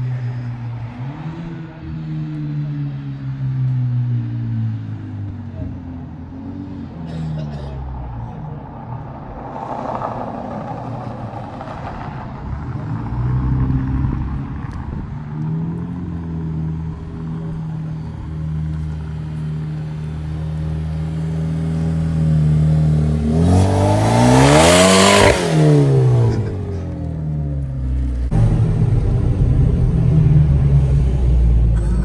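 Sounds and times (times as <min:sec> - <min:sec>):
car exhaust drone passing by: 0:00.0 - 0:32.0.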